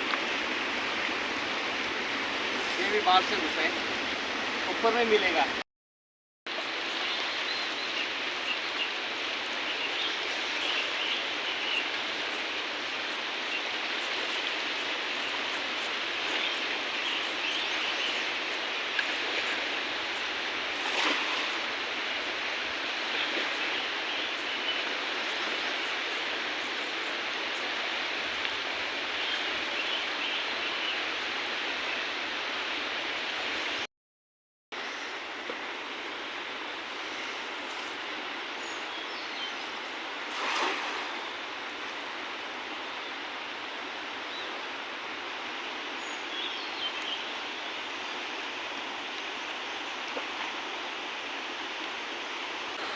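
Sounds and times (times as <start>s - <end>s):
river water rushing: 0.0s - 5.6s, 6.5s - 33.8s, 34.8s - 52.9s.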